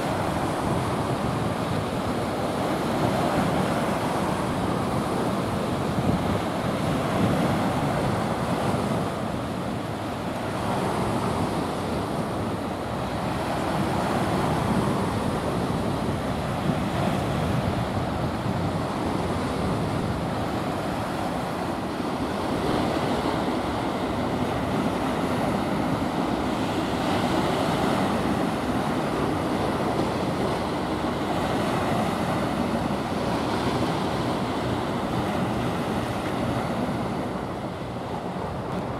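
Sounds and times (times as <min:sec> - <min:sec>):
choppy sea water rushing: 0:00.0 - 0:38.9
wind buffeting microphone: 0:00.0 - 0:38.9.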